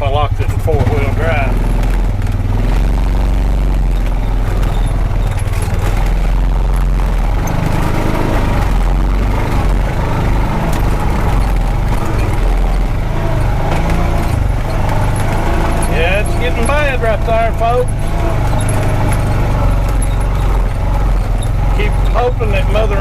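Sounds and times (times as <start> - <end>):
engine pulling under load: 0.0 - 23.0
knocks and rattles: 0.0 - 23.0.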